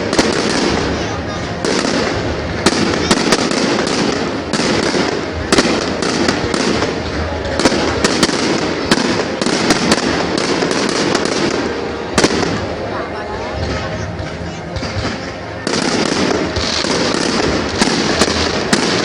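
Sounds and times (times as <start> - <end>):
fireworks crackling hiss: 0.0 - 19.0
fireworks sharp bangs: 0.0 - 19.0.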